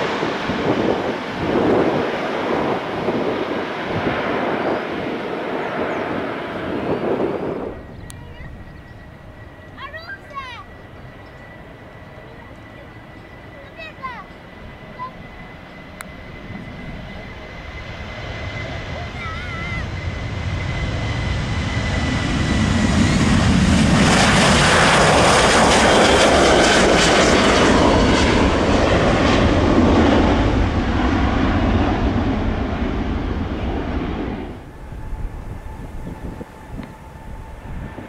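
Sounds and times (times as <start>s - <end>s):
jet engines roaring at takeoff: 0.0s - 38.0s.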